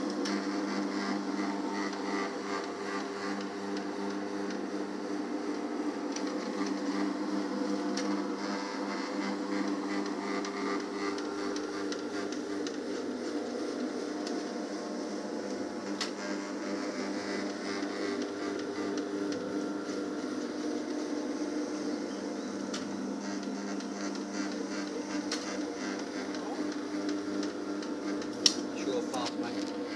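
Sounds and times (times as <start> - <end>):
floor machine motor humming: 0.0 - 29.9.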